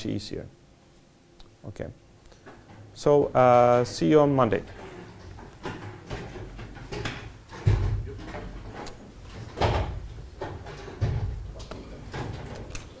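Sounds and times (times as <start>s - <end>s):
light clatter of objects: 2.3s - 13.0s.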